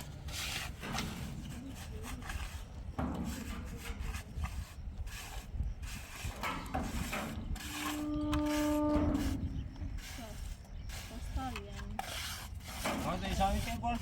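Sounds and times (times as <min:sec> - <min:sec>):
rubbing and knocking of objects: 0:00.0 - 0:14.0.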